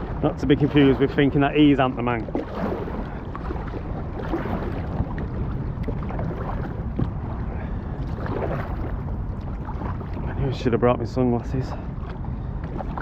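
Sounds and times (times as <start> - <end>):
kayak paddling water: 0.0 - 13.0
wind on microphone: 0.0 - 13.0.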